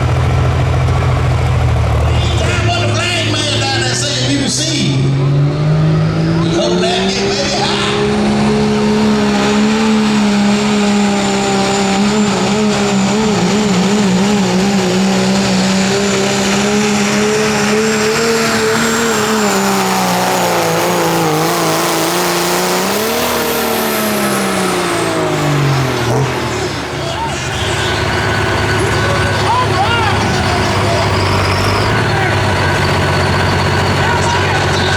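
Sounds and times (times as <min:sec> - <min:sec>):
diesel truck engine straining: 0:00.0 - 0:34.9.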